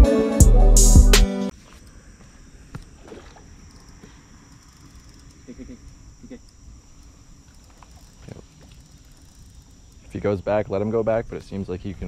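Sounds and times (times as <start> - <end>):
insect chorus buzzing: 1.5 - 12.0.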